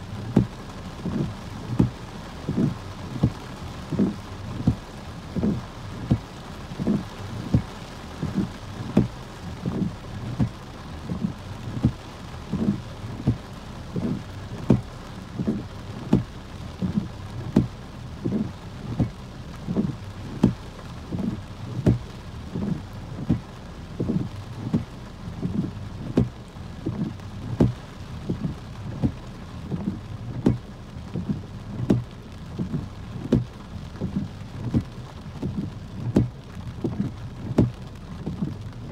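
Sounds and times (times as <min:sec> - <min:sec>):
rain falling on a car: 0:00.0 - 0:38.9
windshield wipers thumping: 0:00.1 - 0:38.9.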